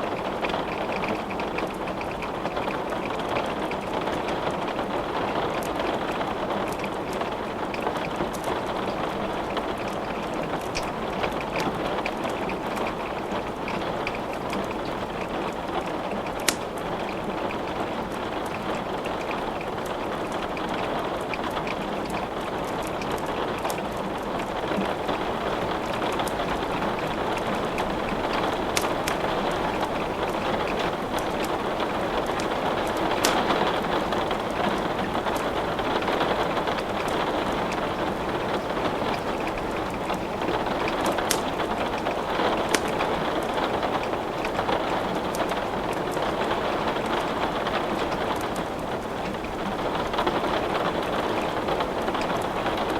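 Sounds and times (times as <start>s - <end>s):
rain hissing: 0.0s - 52.9s
wood crackling in fireplace: 0.0s - 52.9s.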